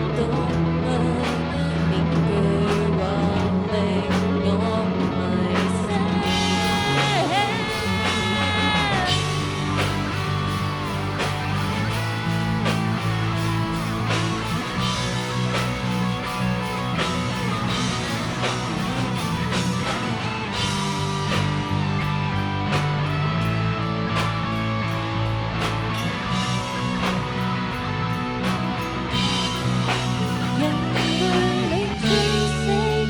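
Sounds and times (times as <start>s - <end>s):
rock music with guitars and drums: 0.0s - 33.0s.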